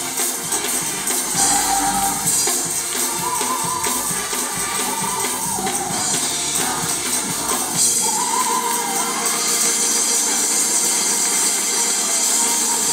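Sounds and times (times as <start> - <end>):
tambourine jingling: 0.0 - 12.9
gospel choir singing: 0.2 - 12.9.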